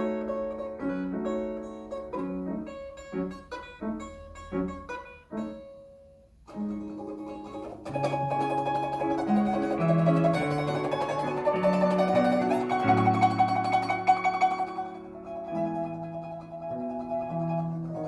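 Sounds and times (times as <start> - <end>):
piano accompaniment: 0.0 - 18.0
plucked string instrument: 0.0 - 18.0.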